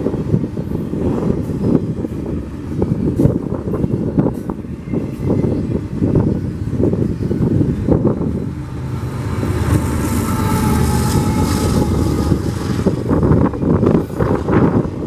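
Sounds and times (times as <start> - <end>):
train rolling past: 0.0 - 15.0
wind buffeting microphone: 0.0 - 15.0.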